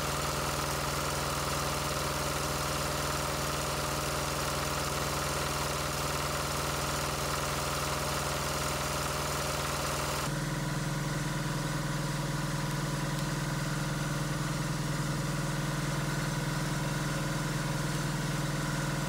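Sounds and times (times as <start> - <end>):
diesel generator humming: 0.0 - 19.0.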